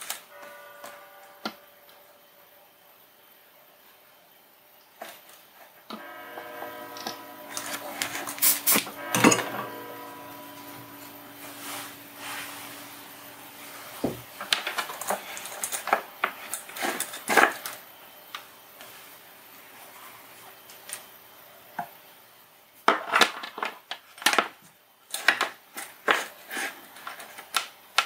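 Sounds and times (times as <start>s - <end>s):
multi-tone hum: 0.0s - 22.8s.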